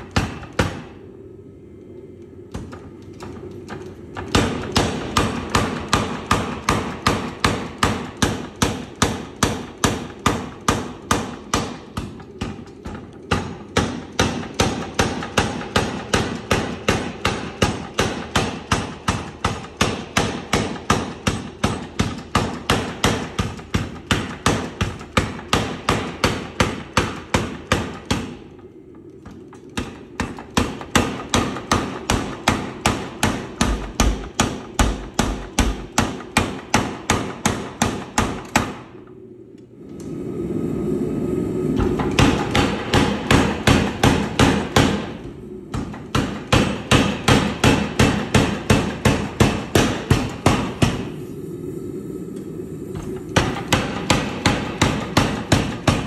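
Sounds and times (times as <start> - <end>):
power hammer striking hot steel: 0.0 - 1.0, 2.5 - 39.1, 41.8 - 51.3, 52.4 - 56.0
steady running noise: 0.0 - 56.0.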